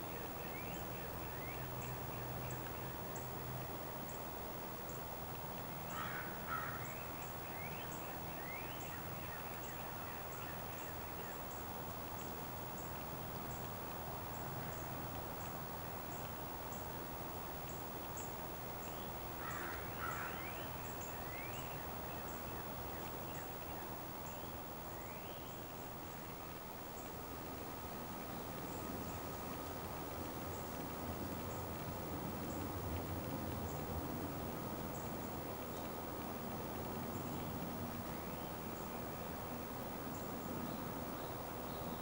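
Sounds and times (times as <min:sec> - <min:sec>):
steady outdoor hiss: 0:00.0 - 0:42.0.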